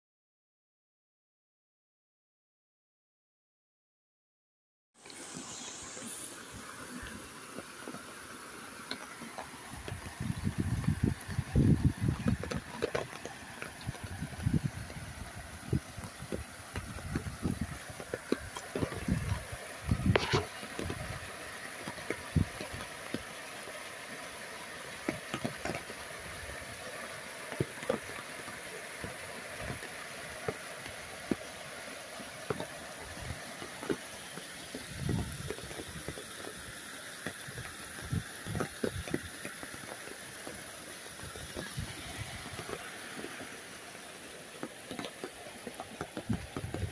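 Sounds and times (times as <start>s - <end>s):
drips and splats: 5.0s - 46.9s
flowing water: 5.0s - 46.9s
heavy rain hissing: 5.0s - 46.9s.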